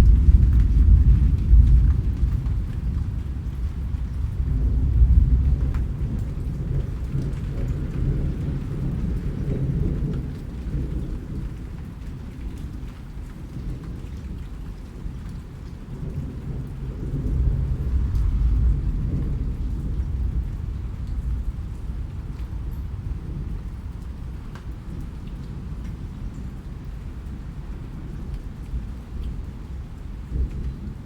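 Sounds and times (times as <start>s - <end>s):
thunder rumbling: 0.0s - 12.7s, 13.5s - 31.0s
rain falling: 0.0s - 31.0s.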